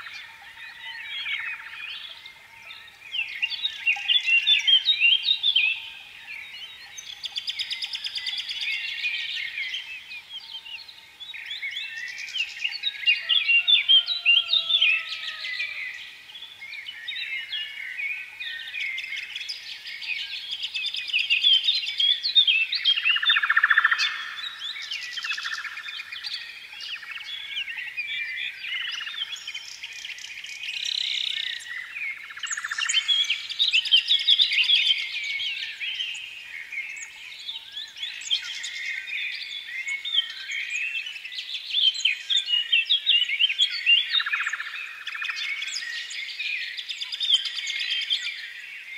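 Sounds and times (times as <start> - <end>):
birds chirping and twittering: 0.0 - 48.9.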